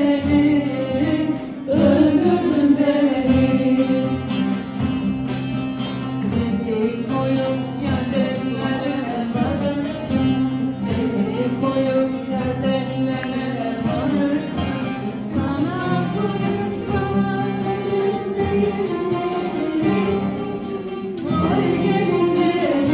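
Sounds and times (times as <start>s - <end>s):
plucked string accompaniment: 0.0s - 22.9s.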